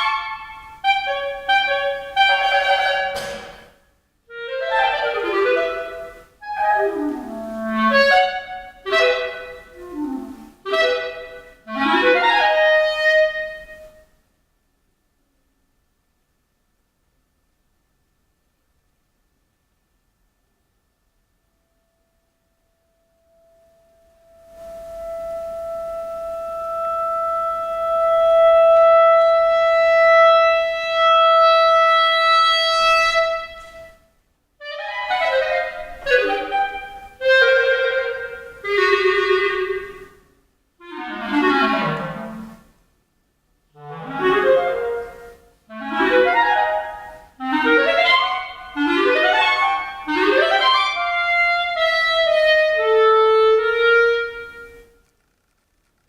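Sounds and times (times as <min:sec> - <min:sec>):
solo clarinet: 0:00.0 - 0:03.7, 0:04.3 - 0:14.2, 0:21.8 - 0:42.8, 0:43.7 - 0:55.1.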